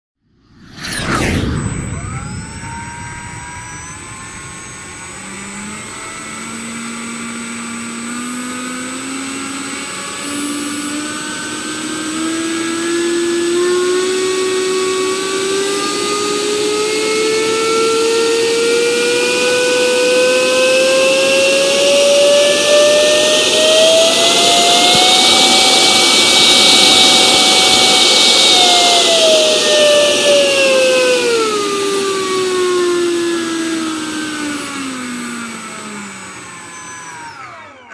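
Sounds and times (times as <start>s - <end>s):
electric ducted fan whine: 0.8s - 37.9s.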